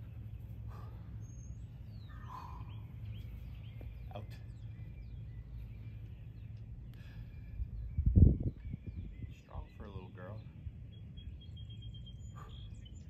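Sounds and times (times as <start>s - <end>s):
faint bird chirps: 0.0s - 13.0s
low outdoor rumble: 0.0s - 13.0s.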